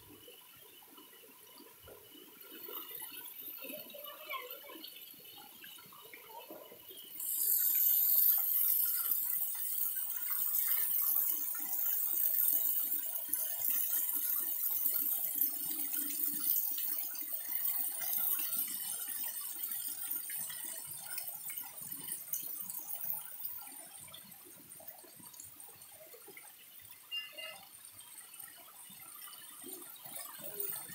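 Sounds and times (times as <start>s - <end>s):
water pouring and splashing: 1.0s - 30.9s.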